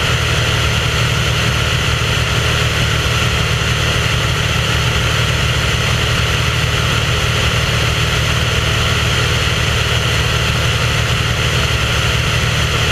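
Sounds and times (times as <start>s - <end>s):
aircraft propeller engine drone: 0.0s - 12.9s.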